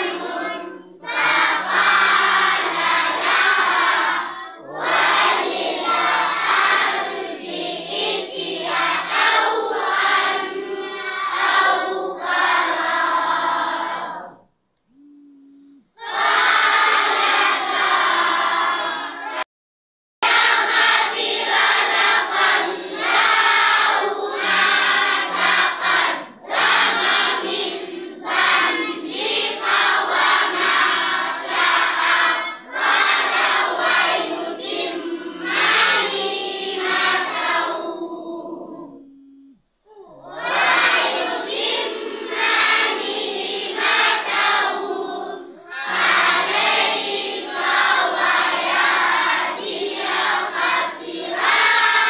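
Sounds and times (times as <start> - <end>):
children chanting together: 0.0 - 14.5, 16.0 - 19.5, 20.2 - 39.1, 39.9 - 52.0.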